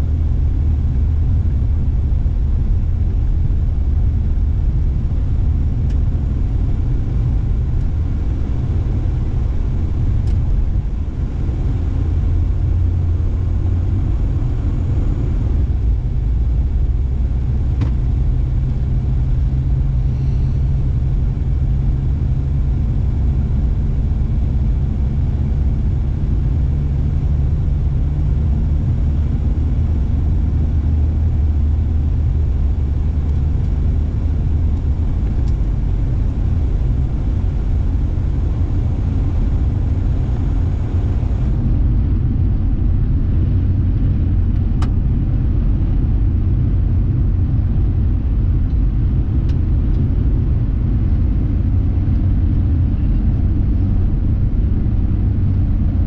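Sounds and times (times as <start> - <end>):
car interior engine and tyre rumble: 0.0 - 56.0.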